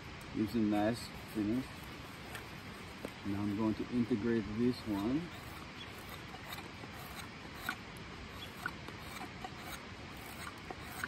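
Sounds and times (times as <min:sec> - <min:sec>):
knife scraping wood shavings: 0:00.6 - 0:03.6, 0:04.5 - 0:11.0.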